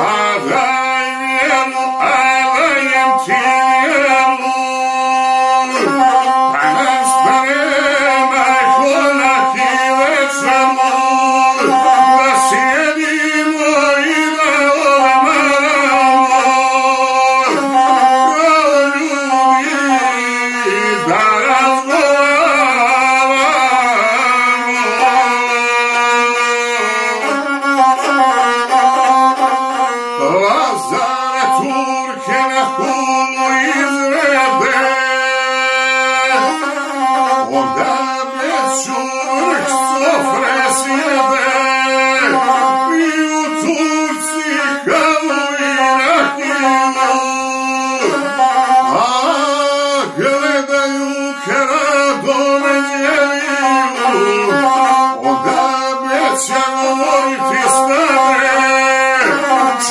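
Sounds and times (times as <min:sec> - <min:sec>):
bowed single-string fiddle: 0:00.0 - 0:59.9
man singing: 0:00.0 - 0:59.9.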